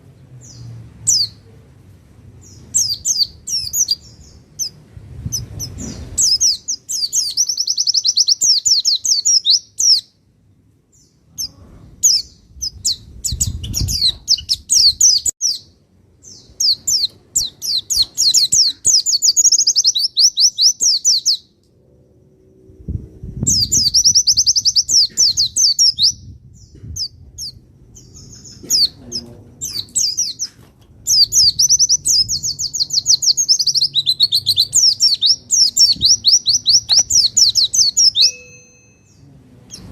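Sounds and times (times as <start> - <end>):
bird twittering song: 0.0 - 1.5, 2.4 - 10.2, 10.9 - 39.9.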